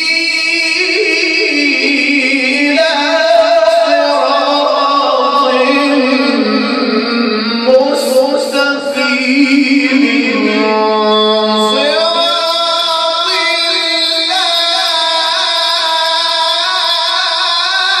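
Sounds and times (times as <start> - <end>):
melodic recitation voice: 0.0 - 18.0.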